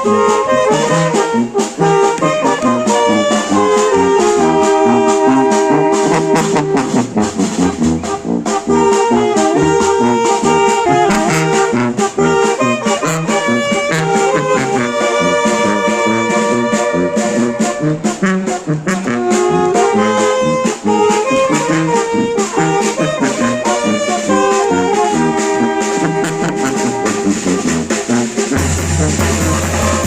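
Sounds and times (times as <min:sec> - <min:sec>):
brass band playing: 0:00.0 - 0:30.0.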